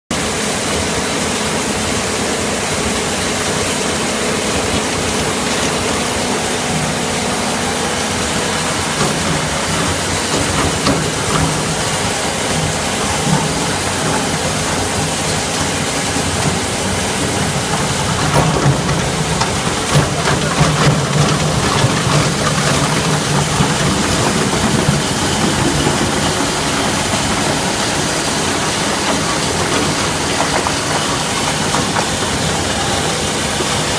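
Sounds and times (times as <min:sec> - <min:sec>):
shredder machinery running: 0:00.1 - 0:33.9
irregular machine knocks: 0:04.6 - 0:33.9.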